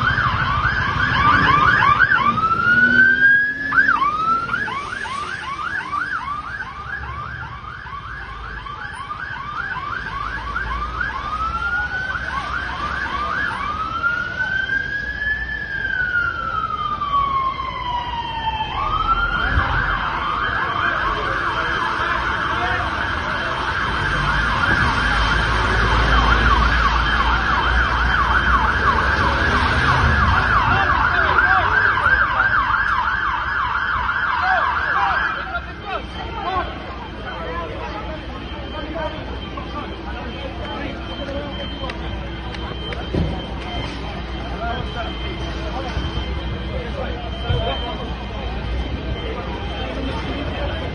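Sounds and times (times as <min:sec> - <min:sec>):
emergency vehicle siren: 0:00.0 - 0:50.9.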